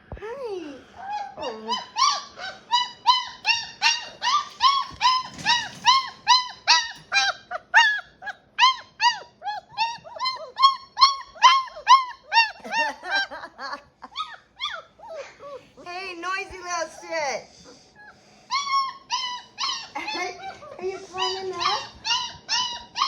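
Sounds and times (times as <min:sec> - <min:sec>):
puppy whining: 0:00.2 - 0:23.0.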